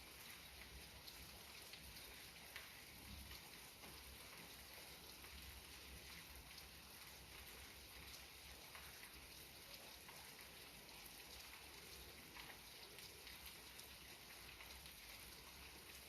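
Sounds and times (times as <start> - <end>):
gentle rain patter: 0.0 - 16.0.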